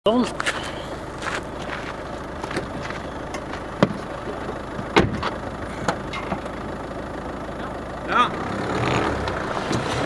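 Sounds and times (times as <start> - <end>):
engine idling: 0.1 - 10.0.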